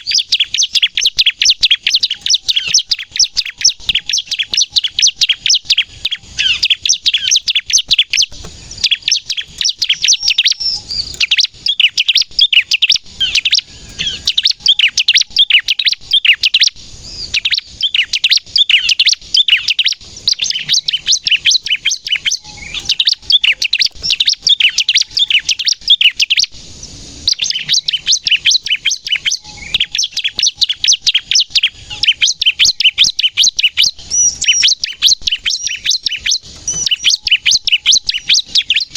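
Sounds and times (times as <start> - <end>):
bird singing sharp high chirps: 0.0 - 38.9.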